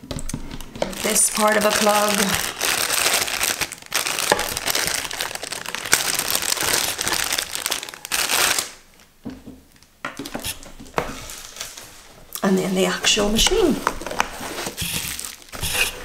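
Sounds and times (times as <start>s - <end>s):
plastic bag crinkling: 0.2s - 16.0s.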